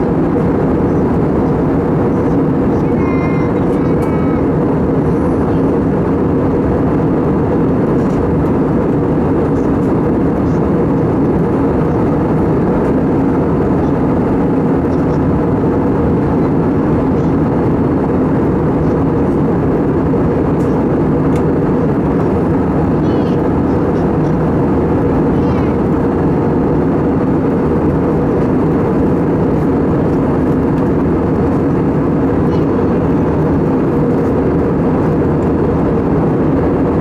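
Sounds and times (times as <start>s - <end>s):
aircraft cabin engine rumble: 0.0s - 37.0s.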